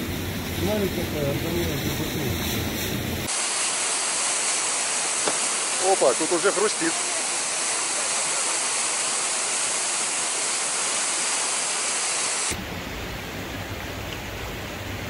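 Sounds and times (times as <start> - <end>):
water rushing under ice: 0.2 - 15.0.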